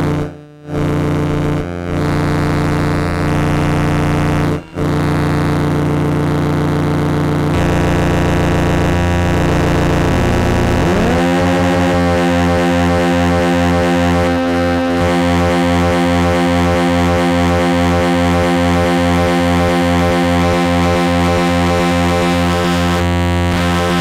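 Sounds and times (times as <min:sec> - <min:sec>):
distorted synthesizer noise drone: 0:00.0 - 0:24.0.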